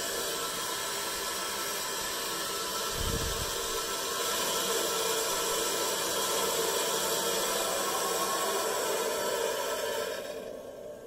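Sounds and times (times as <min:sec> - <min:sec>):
water rushing through pipe: 0:00.0 - 0:10.8.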